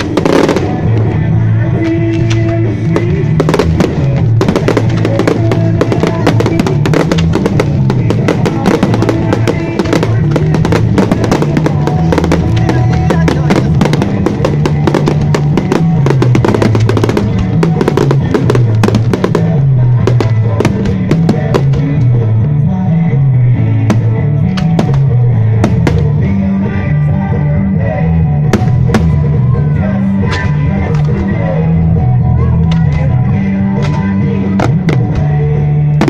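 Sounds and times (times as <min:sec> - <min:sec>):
fireworks bangs and crackles: 0:00.0 - 0:22.4, 0:23.8 - 0:26.4, 0:28.4 - 0:31.6, 0:33.7 - 0:36.0
loud music with bass and drums: 0:00.0 - 0:36.0.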